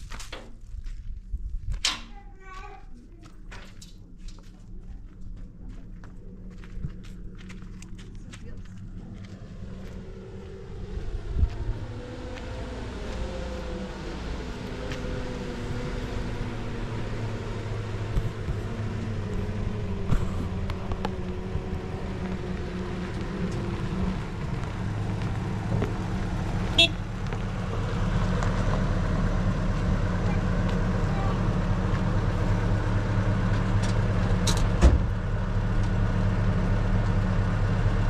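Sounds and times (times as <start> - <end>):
engine running steadily: 3.0 - 38.0.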